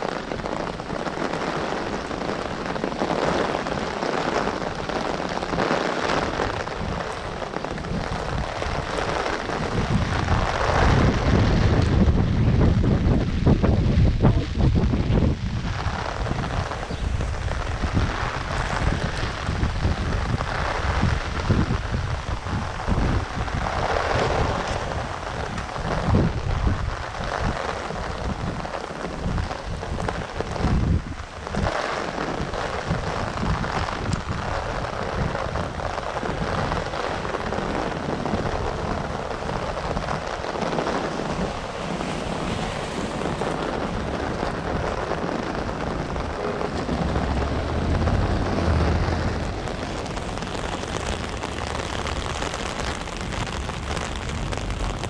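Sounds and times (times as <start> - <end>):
heavy rain hissing: 0.0 - 55.0
wind gusts buffeting microphone: 0.0 - 55.0.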